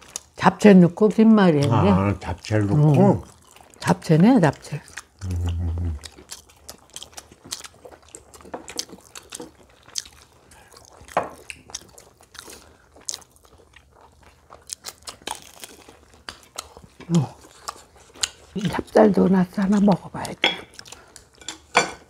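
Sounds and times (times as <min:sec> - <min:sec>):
crunching and chewing fried food: 0:00.0 - 0:00.4, 0:01.5 - 0:21.8.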